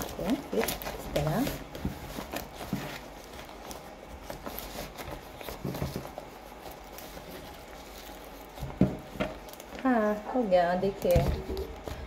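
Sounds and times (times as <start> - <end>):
leaf rustling and crinkling: 0.0 - 12.0.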